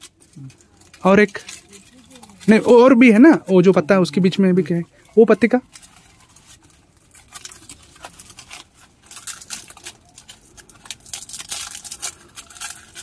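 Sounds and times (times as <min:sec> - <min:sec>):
dry leaves crackling and tearing: 0:00.0 - 0:13.0.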